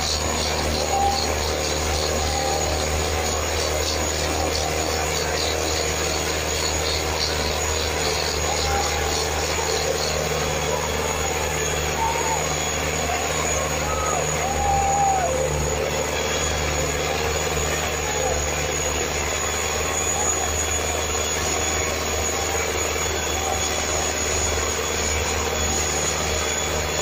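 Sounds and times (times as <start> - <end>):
tractor diesel engine running: 0.0 - 27.0
voices calling out: 0.0 - 27.0.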